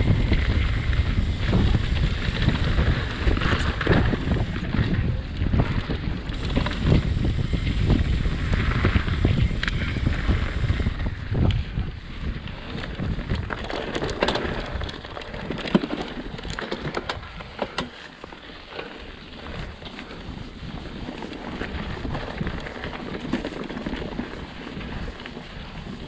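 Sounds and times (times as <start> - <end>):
bike clicking and rattling: 0.0 - 26.0
bike tyres rolling on dirt: 0.0 - 26.0
wind buffeting microphone: 0.0 - 26.0.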